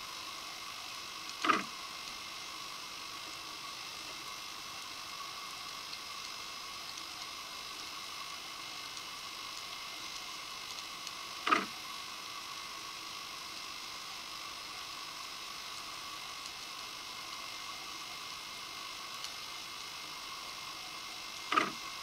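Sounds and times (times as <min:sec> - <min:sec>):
electronic hiss with high whine: 0:00.0 - 0:22.0.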